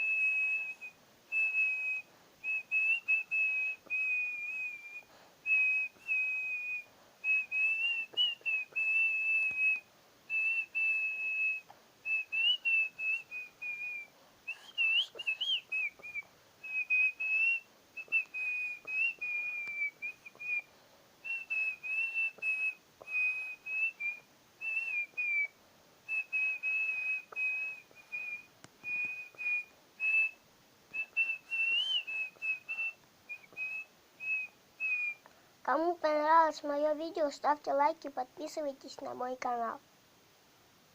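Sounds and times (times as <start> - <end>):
person whistling a melody: 0.0 - 25.5, 26.1 - 35.3.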